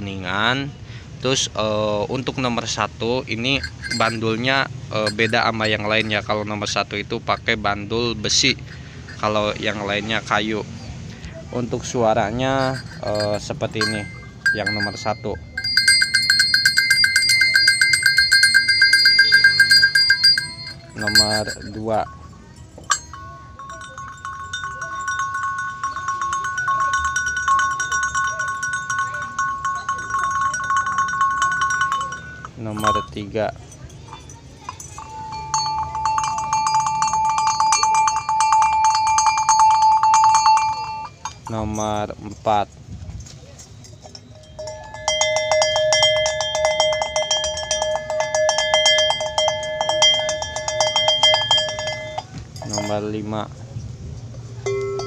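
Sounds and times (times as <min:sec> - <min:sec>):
cowbell shaken rapidly: 0:02.6 - 0:10.3, 0:11.8 - 0:42.6, 0:43.6 - 0:53.3, 0:54.6 - 0:55.0.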